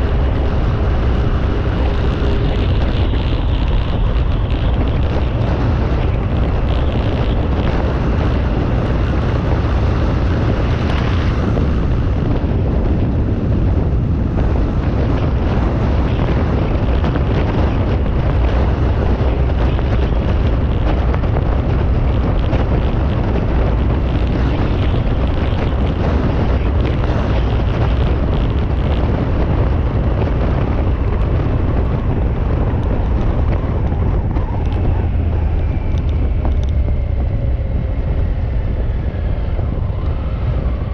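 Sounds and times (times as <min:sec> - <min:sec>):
low engine rumble: 0:00.0 - 0:40.9
wind buffeting microphone: 0:00.0 - 0:40.9.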